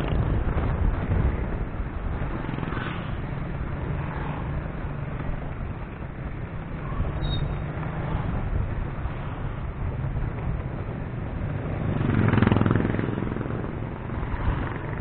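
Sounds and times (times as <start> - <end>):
engine hum: 0.0 - 15.0
motorcycles passing close: 0.0 - 15.0
road and wind hiss: 0.0 - 15.0.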